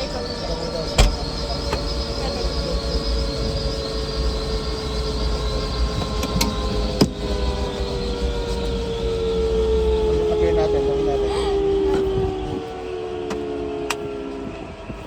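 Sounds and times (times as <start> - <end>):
helicopter turbine and rotor: 0.0 - 15.0.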